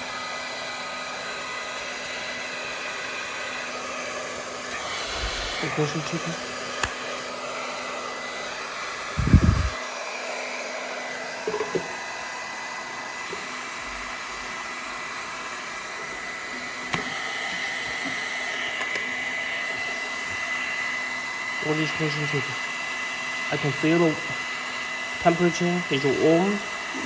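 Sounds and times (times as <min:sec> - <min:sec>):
hair dryer running: 0:00.0 - 0:27.0.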